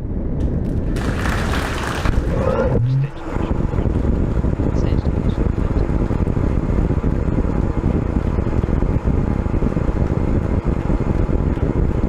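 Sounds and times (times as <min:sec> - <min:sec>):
deep rocket rumble: 0:00.0 - 0:12.0.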